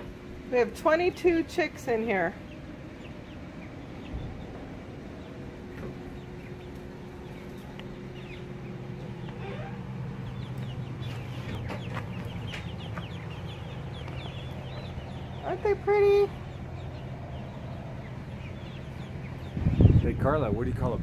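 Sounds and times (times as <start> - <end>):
chicks peeping: 0.0 - 21.0
low steady hum: 0.0 - 21.0.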